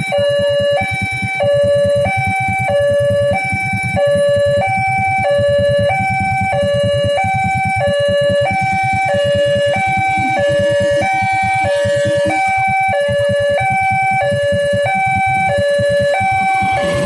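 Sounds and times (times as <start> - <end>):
two-tone level crossing alarm: 0.0 - 17.0.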